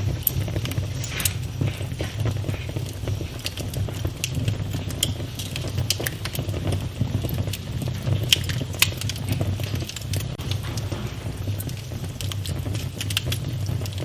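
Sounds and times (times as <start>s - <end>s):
fire crackles and sharp pops: 0.0s - 14.0s
low rumble of flames: 0.0s - 14.0s.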